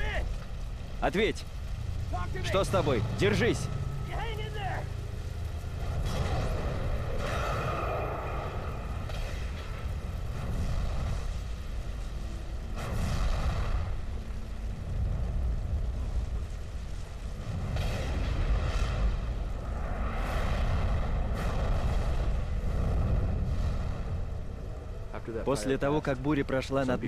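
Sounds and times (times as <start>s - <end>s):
wildfire burning: 0.0s - 27.0s.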